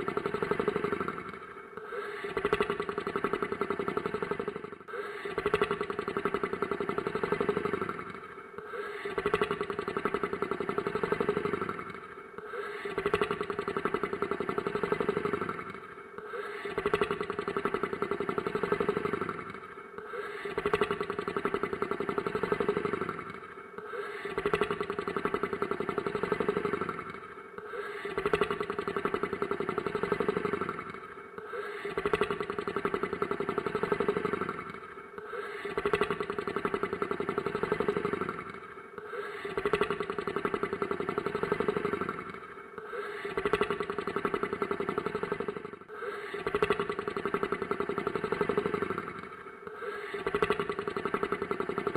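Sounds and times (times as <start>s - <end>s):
rattling snore: 0.0s - 51.9s.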